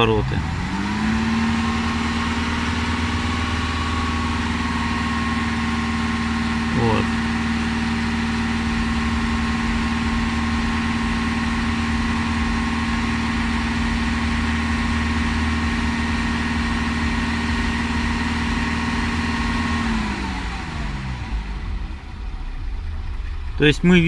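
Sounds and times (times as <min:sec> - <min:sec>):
diesel engine at raised revs: 0:00.0 - 0:24.0.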